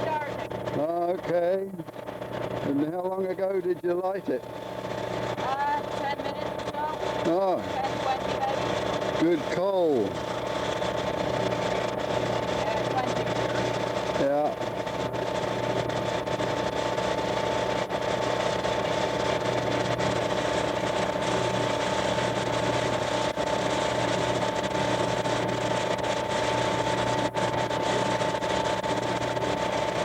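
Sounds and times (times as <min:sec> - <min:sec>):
small machine humming with whine: 0:00.0 - 0:30.0.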